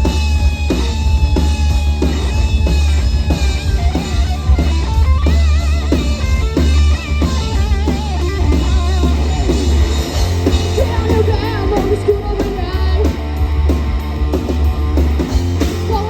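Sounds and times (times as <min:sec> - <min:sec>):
electric guitar bent lead notes: 0:00.0 - 0:16.0
live rock band playing: 0:00.0 - 0:16.0.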